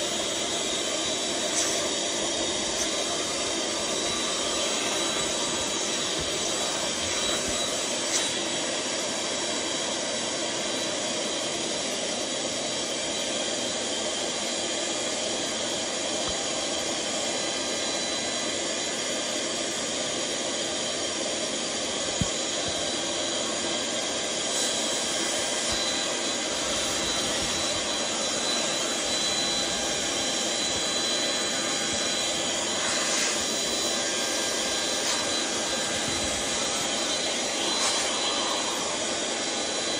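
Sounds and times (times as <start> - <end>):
electric air blower running: 0.0 - 39.9.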